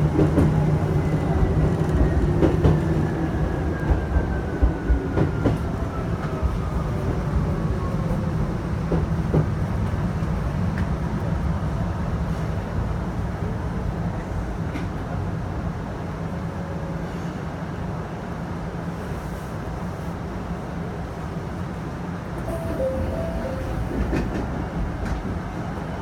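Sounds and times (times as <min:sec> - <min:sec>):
train low rumble: 0:00.0 - 0:26.0.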